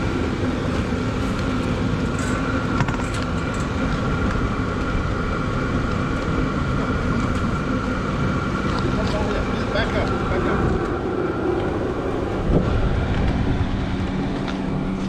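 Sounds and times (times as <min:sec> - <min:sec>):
air heater fan humming: 0:00.0 - 0:15.0
car engine idling: 0:00.0 - 0:15.0.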